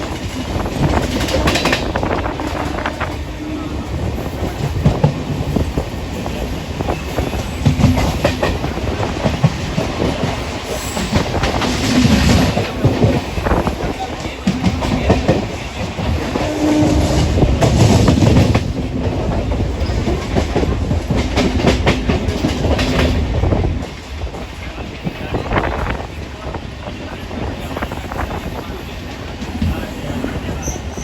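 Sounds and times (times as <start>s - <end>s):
train wheels clattering over rails: 0.0s - 31.0s.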